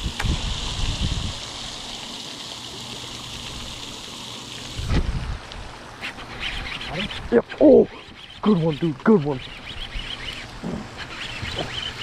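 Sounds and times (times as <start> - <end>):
fountain water spraying: 0.0 - 12.0.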